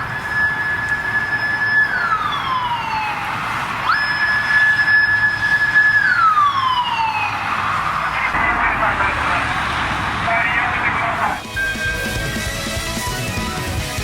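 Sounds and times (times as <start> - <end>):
motorcycle siren wailing: 0.0 - 13.7.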